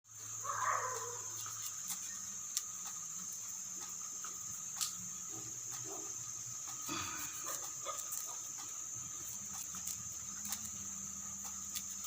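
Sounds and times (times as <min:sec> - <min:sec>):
insects chirring: 0:00.1 - 0:12.0.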